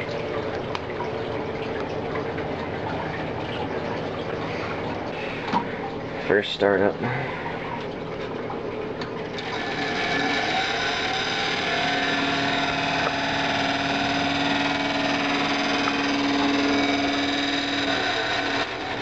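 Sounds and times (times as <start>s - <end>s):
computer fans whirring: 0.0s - 19.0s
steady hum: 0.0s - 19.0s.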